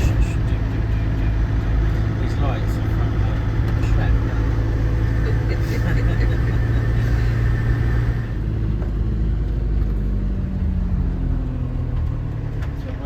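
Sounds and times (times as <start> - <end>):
motorhome engine drone: 0.0 - 13.0
road noise: 0.0 - 13.0.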